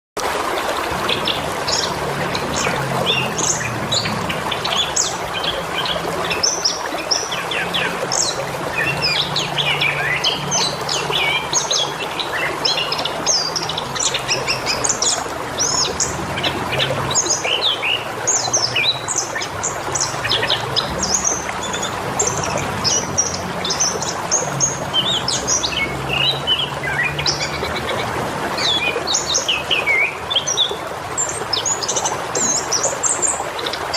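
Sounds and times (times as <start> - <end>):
trickle of running water: 0.2 - 33.9
small birds chirping and twittering: 0.9 - 33.9.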